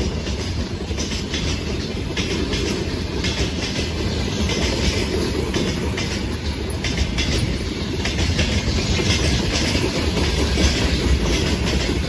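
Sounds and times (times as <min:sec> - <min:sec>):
train wheels rumbling on rail: 0:00.0 - 0:12.0
wheels clacking over rail joints: 0:00.0 - 0:12.0.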